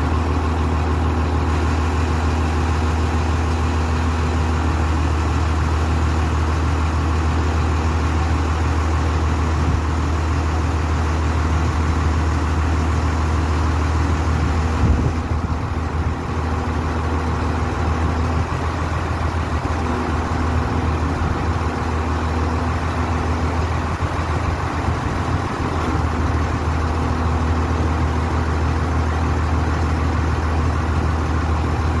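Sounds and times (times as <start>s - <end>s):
diesel engine running steadily: 0.0s - 32.0s.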